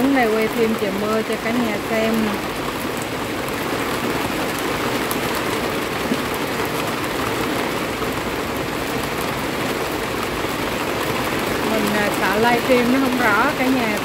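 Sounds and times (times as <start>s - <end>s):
heavy rain: 0.0s - 14.0s
rain drop ticks: 0.0s - 14.0s.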